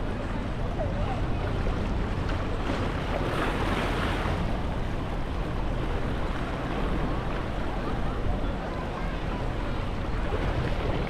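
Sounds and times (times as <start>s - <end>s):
small waves washing onto beach: 0.0s - 11.0s
wind rumble on microphone: 0.0s - 11.0s.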